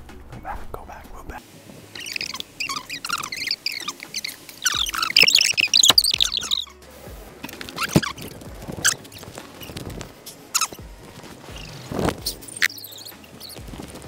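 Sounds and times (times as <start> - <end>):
small birds chirping: 1.9 - 6.8, 7.4 - 14.0.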